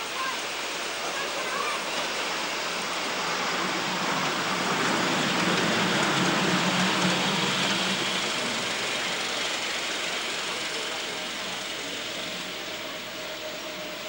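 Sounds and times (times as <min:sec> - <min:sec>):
miniature train rolling on track: 0:00.0 - 0:14.0.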